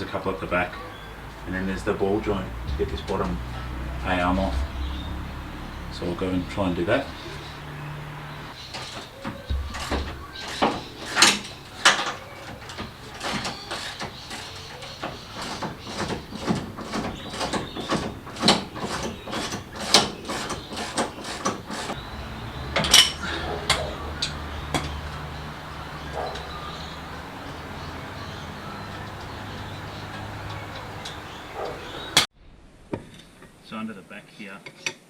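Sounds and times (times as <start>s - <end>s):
hand tools clicking and knocking: 0.0s - 32.3s.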